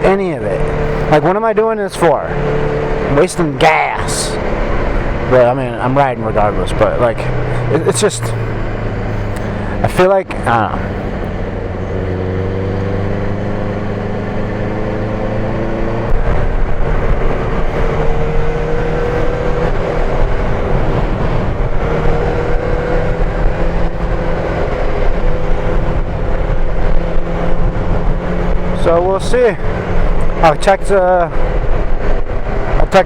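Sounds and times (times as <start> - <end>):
motorcycle engine running: 0.0 - 33.0
wind buffeting microphone: 2.3 - 33.0.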